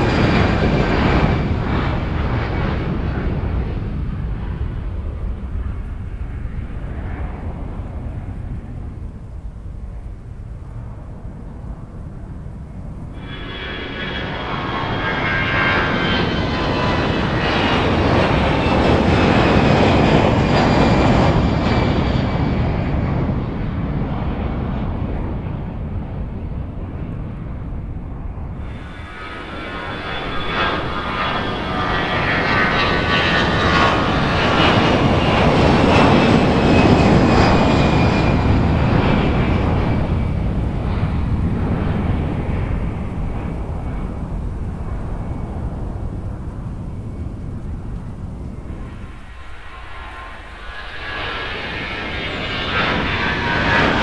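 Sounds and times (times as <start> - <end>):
jet engines roaring at takeoff: 0.0 - 54.0.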